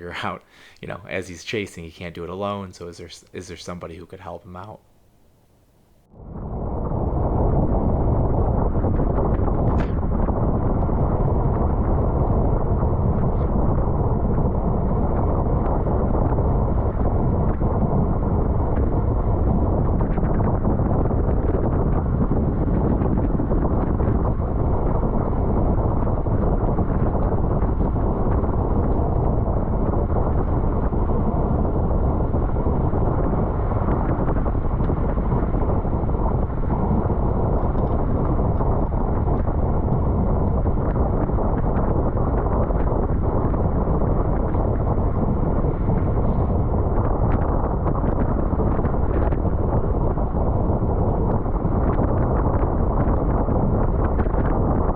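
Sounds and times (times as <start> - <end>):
wind buffeting microphone: 6.0 - 54.9.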